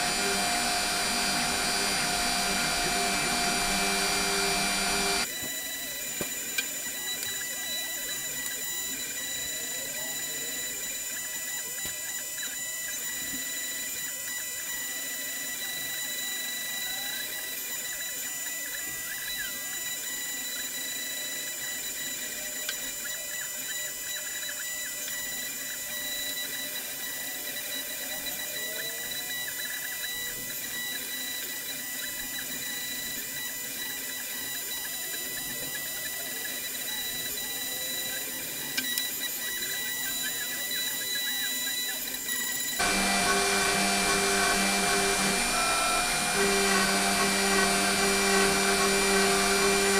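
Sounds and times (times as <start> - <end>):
motors gliding tones: 0.0 - 49.9
router spindle whine: 0.0 - 49.9.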